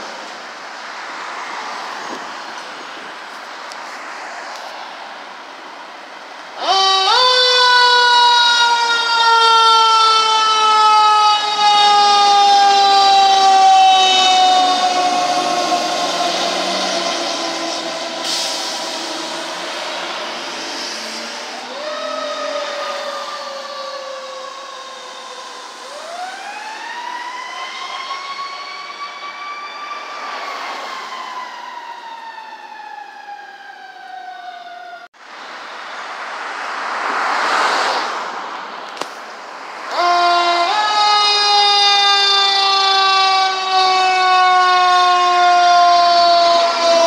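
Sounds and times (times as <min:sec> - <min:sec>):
fire engine siren: 0:00.0 - 0:35.2, 0:39.7 - 0:47.0
street traffic: 0:00.0 - 0:47.0.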